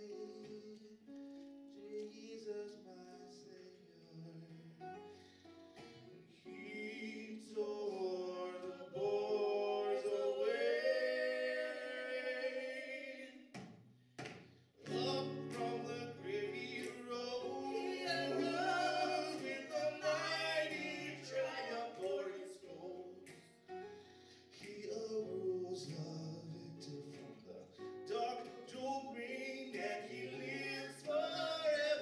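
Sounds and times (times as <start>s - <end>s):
woman and man singing gospel: 0.0s - 1.2s, 1.8s - 5.0s, 6.3s - 13.6s, 14.8s - 32.0s
acoustic guitar: 0.0s - 32.0s.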